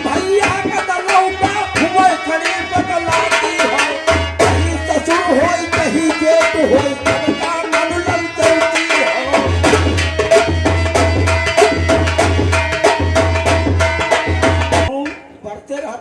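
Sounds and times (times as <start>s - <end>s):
tabla playing fast rhythm: 0.0s - 15.4s.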